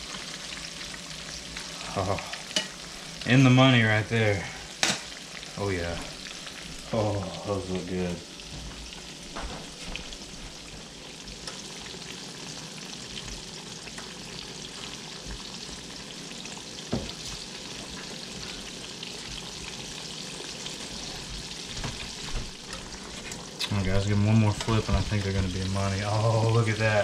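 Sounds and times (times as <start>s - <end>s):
fish sizzling in oil: 0.0s - 27.0s.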